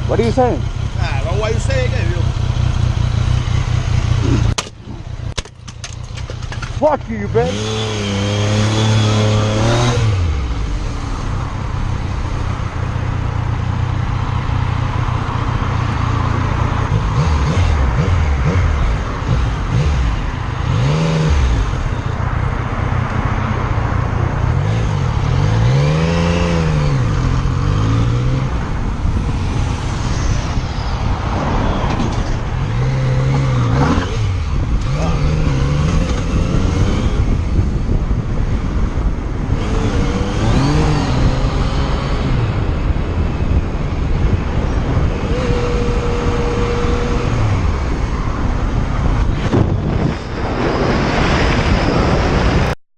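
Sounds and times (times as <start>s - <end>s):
road noise: 0.0s - 52.8s.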